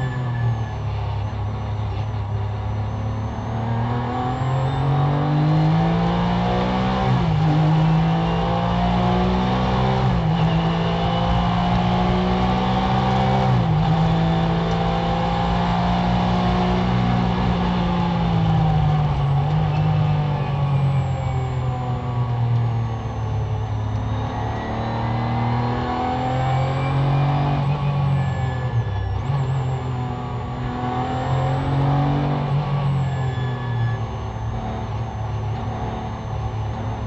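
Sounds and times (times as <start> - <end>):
race car engine accelerating: 0.0 - 37.0.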